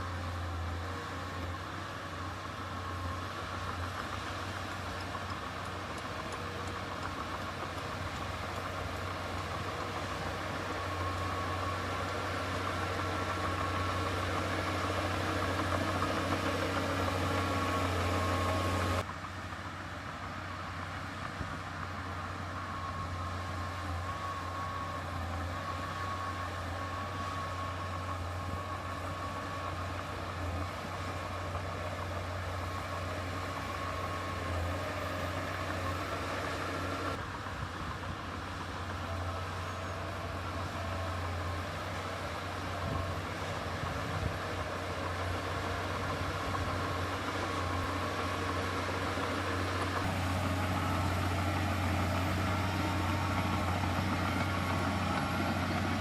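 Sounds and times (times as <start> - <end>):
heavy diesel machinery engine running: 0.0 - 56.0.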